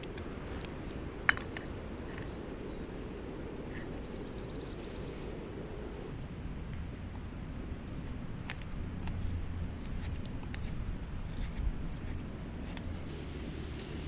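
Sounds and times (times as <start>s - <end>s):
low rushing outdoor background: 0.0s - 14.0s.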